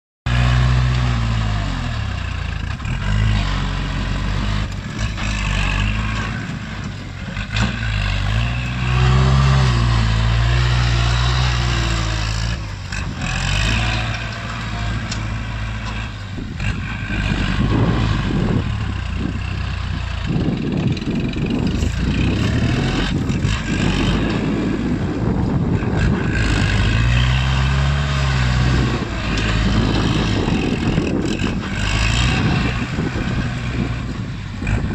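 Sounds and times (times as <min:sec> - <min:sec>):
tractor diesel engine working: 0:00.3 - 0:34.9.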